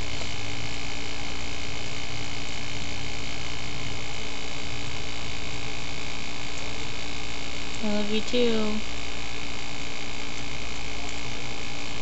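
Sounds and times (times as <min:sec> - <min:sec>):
steady hum and hiss: 0:00.0 - 0:12.0.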